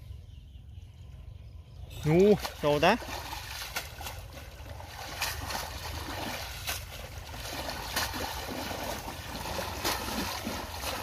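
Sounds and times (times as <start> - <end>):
muddy water sloshing and splashing: 1.8 - 11.0.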